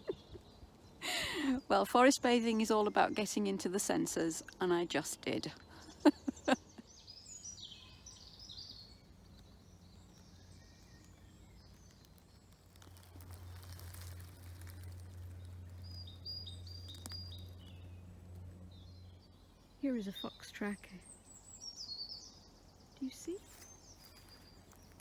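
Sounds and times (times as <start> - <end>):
faint bird chirping: 0.0 - 25.0
low steady hum: 0.0 - 25.0.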